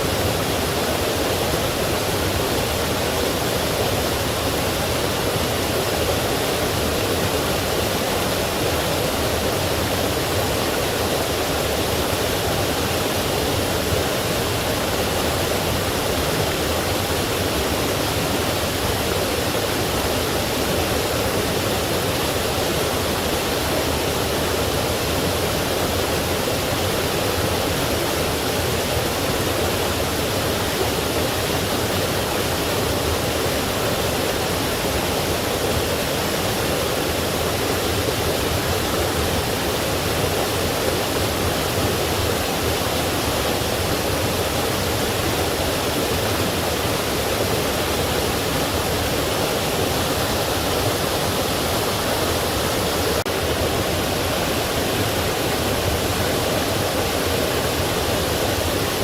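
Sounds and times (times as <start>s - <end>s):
stream and waterfall rushing: 0.0s - 59.0s.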